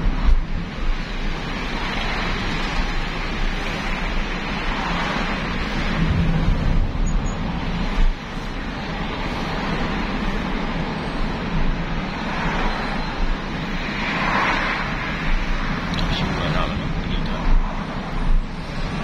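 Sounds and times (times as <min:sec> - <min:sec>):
car cabin road and engine noise: 0:00.0 - 0:19.0.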